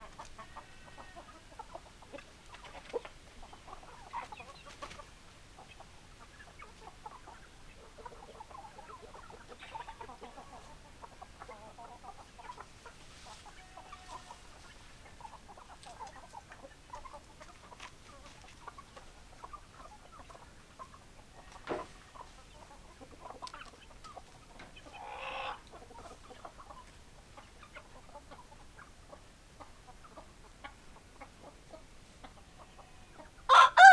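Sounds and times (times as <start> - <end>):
chickens clucking: 0.0 - 33.9
drawn-out chicken call: 0.0 - 33.9.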